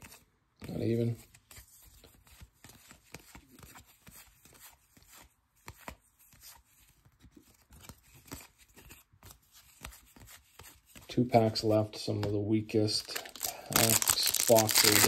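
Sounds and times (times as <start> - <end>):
trading cards tapping and rustling: 0.0 - 15.0.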